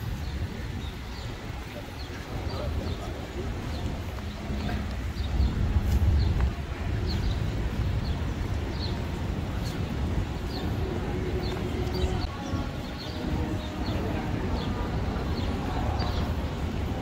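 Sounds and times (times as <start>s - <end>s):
faint voices: 0.0s - 17.0s.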